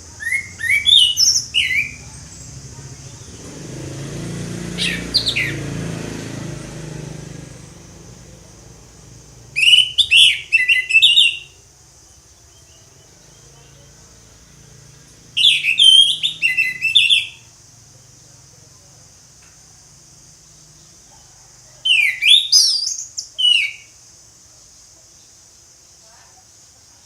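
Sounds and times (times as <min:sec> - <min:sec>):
thrush singing whistled notes: 0:00.0 - 0:17.8, 0:20.0 - 0:24.2.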